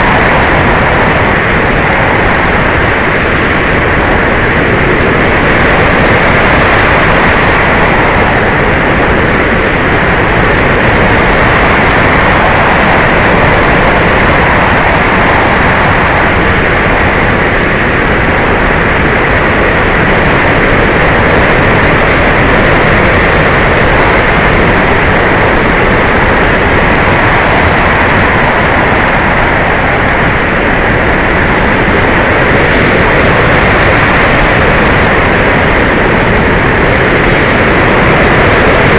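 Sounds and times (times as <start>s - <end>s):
faint high whine: 0.0s - 38.9s
model plane propeller and airflow: 0.0s - 38.9s.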